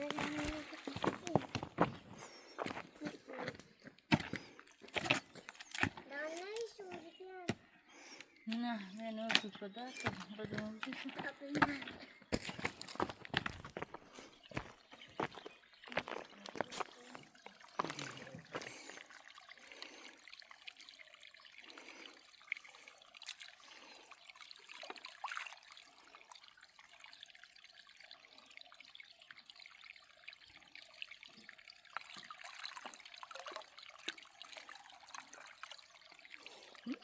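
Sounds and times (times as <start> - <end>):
water trickling and splashing: 0.0 - 37.0.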